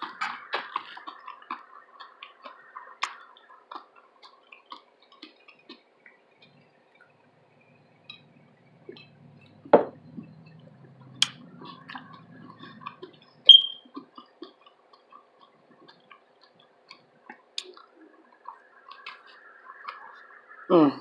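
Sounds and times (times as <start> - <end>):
person chewing food: 0.0 - 20.6.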